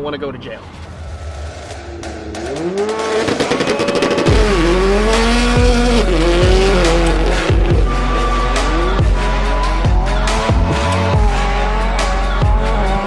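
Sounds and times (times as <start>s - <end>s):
car engine revving: 0.0s - 13.0s
tires squealing: 0.0s - 13.0s
bass-heavy music: 0.8s - 13.0s.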